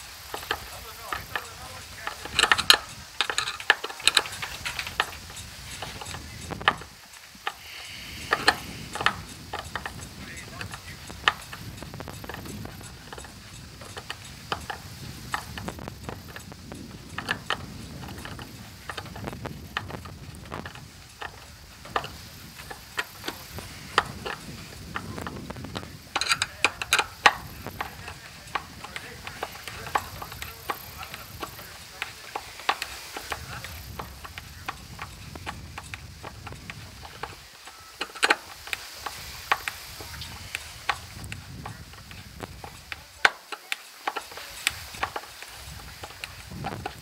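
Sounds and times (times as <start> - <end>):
screwdriver clicking: 0.1 - 47.0.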